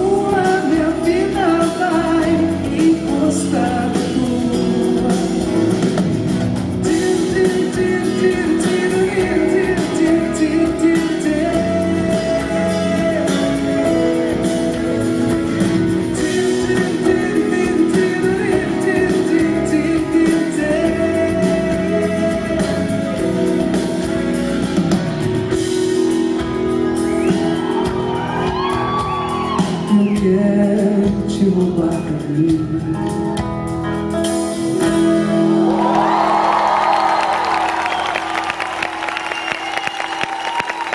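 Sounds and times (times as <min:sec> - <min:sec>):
person singing: 0:00.0 - 0:33.6
live band with guitar: 0:00.0 - 0:40.9.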